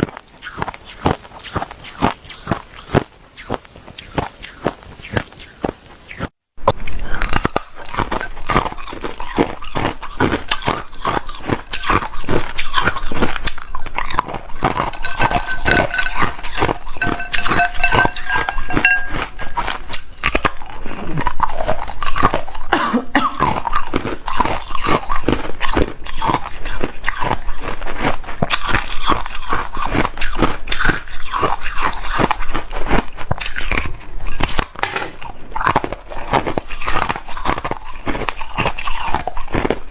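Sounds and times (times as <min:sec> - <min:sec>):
ice being crunched and chewed: 0:00.0 - 0:22.7, 0:23.3 - 0:39.9.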